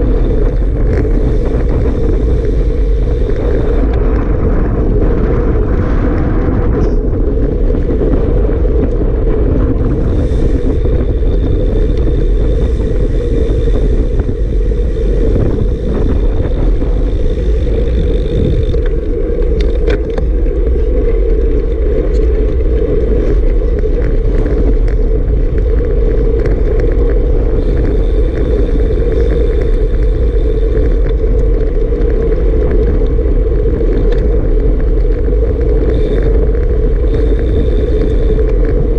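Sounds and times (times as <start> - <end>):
wind roaring over microphone: 0.0 - 38.9.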